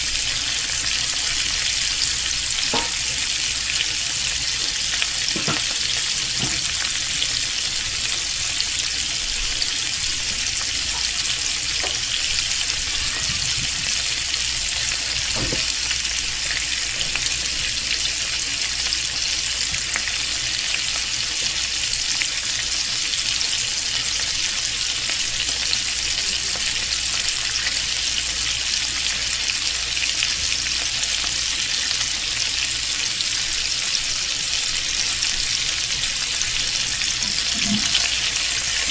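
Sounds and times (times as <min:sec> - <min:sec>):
bacon sizzling and crackling: 0:00.0 - 0:38.9.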